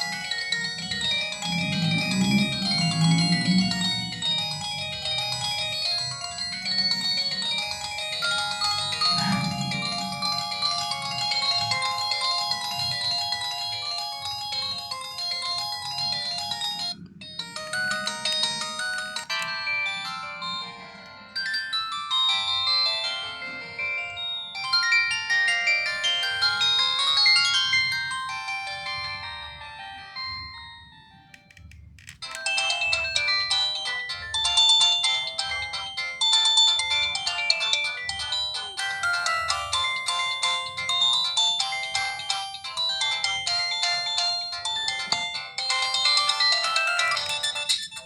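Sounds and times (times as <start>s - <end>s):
mobile phone ringtone melodies: 0.0s - 48.0s.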